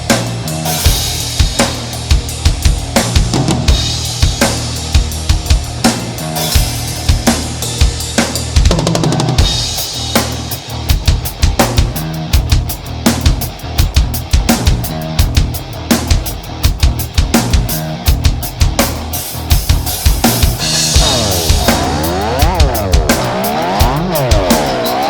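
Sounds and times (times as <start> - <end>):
bass line: 0.0 - 25.0
drum kit beat: 0.0 - 25.0.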